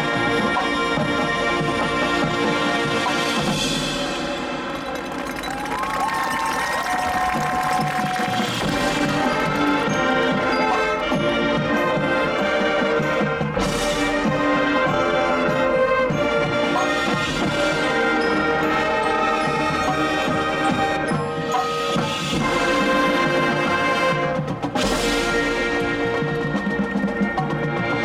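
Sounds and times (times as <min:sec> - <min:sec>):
loud band hits: 0:00.0 - 0:18.3, 0:21.9 - 0:28.0
marching band brass: 0:00.0 - 0:28.0
percussion: 0:00.0 - 0:28.0.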